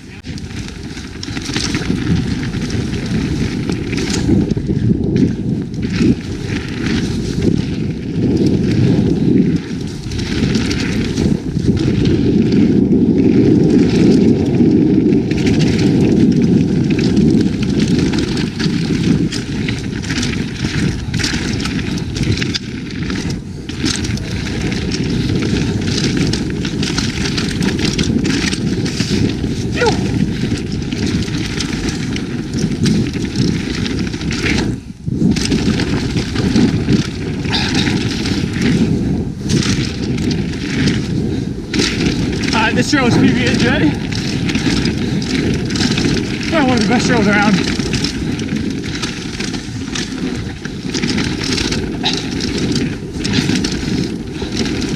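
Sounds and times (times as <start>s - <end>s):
bike rattling over rough ground: 0.0s - 54.9s
wind rumbling on microphone: 0.0s - 54.9s.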